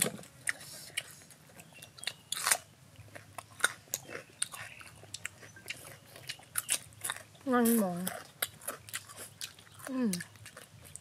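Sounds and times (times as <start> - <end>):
people crunching and chewing food: 0.0 - 11.0.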